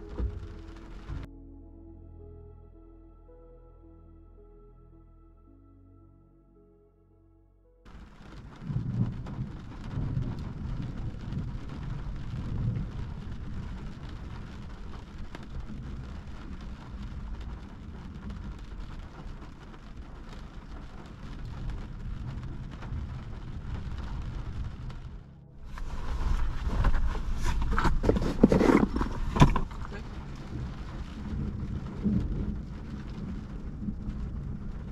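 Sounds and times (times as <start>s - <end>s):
heavy rain on a car windshield: 0.0s - 1.3s, 7.9s - 34.9s
low rumble: 0.0s - 5.6s, 7.6s - 34.9s.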